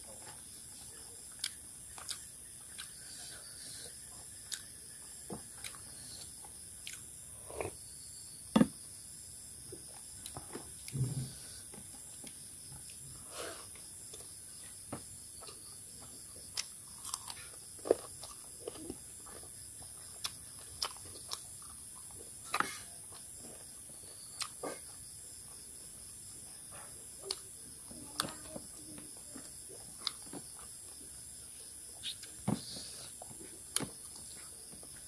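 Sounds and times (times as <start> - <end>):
man chewing food: 0.0 - 7.9, 9.6 - 27.6, 29.2 - 35.0.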